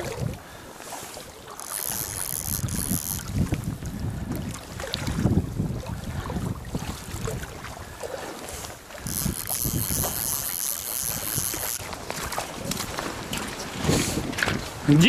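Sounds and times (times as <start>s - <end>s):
wind buffeting microphone: 0.0s - 0.6s, 1.7s - 15.0s.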